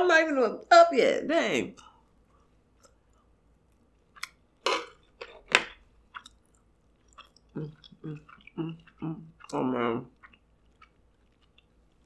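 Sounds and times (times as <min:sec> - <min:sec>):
wet chewing sounds: 0:01.8 - 0:12.0.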